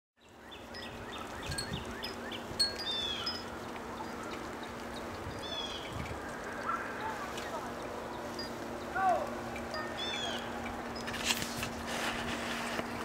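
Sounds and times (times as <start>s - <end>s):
small birds chirping: 0.2s - 11.0s
outdoor background hiss: 0.2s - 13.0s.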